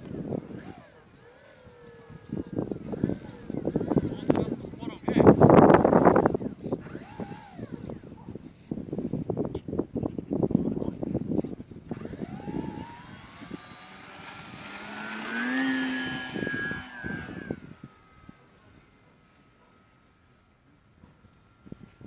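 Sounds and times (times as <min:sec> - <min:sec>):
wind gusts on microphone: 0:00.0 - 0:18.4
model plane motor whine: 0:00.0 - 0:22.0.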